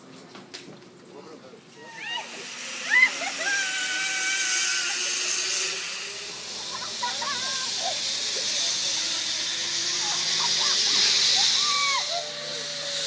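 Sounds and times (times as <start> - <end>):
zipline trolley hissing on cable: 1.7 - 13.0.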